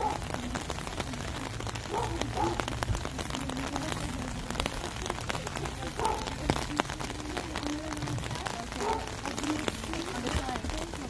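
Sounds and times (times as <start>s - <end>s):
faint voices: 0.0s - 11.0s
rain falling: 0.0s - 11.0s.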